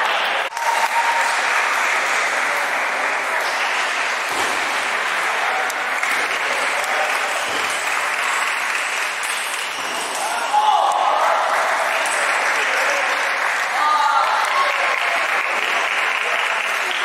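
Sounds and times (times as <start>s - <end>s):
busy table tennis hall hubbub: 0.0s - 17.0s.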